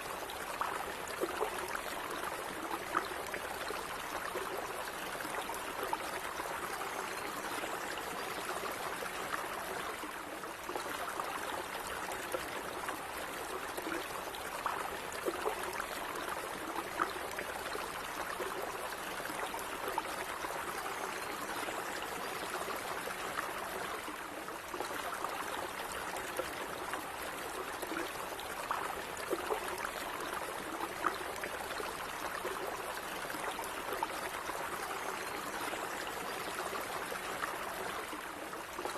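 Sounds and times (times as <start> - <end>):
stream water murmuring: 0.0 - 38.9.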